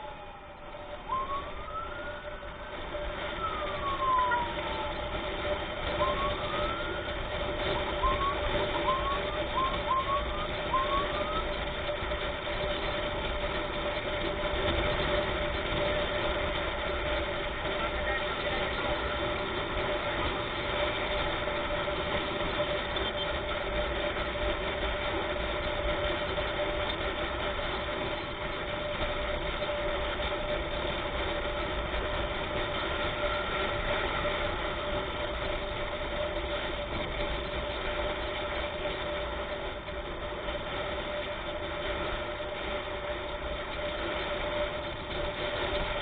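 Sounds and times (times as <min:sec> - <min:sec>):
road noise: 0:00.0 - 0:46.0
vehicle engine running: 0:00.0 - 0:46.0.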